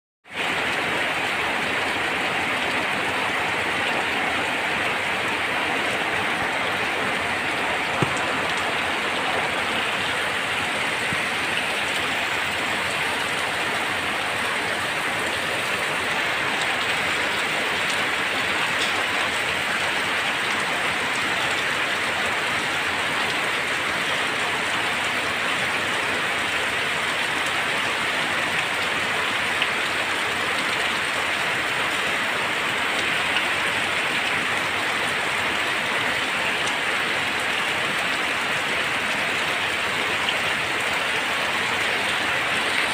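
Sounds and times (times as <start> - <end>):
heavy rain on pavement and foliage: 0.2 - 42.9.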